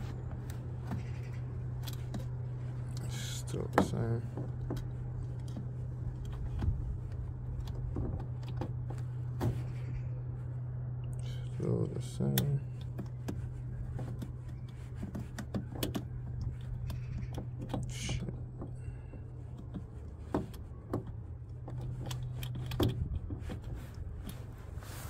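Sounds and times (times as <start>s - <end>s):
handling clicks and knocks: 0.0s - 10.3s, 10.9s - 24.8s
steady low hum: 0.0s - 25.0s.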